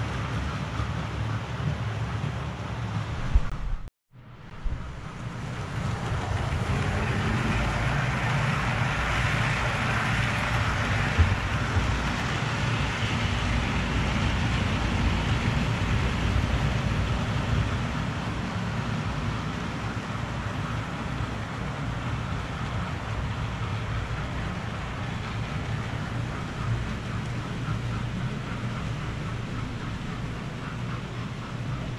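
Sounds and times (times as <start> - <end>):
model train wheels on rails: 0.0 - 3.8, 4.4 - 31.9.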